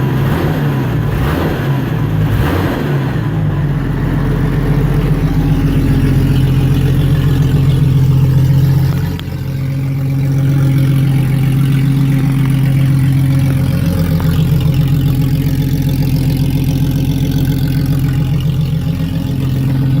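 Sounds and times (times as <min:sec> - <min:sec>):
car engine idling without exhaust: 0:00.0 - 0:20.0.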